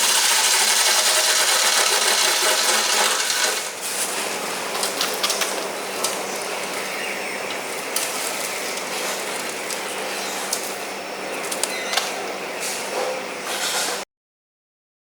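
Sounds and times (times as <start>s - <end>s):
wood chipper humming: 0.0s - 12.8s.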